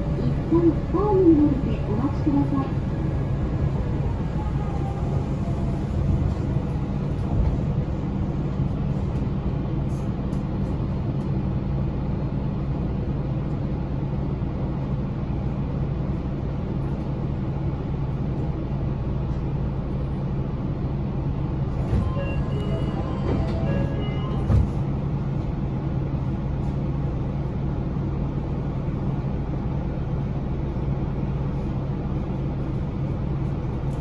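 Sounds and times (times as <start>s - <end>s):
monorail car rumble and hum: 0.0s - 34.0s.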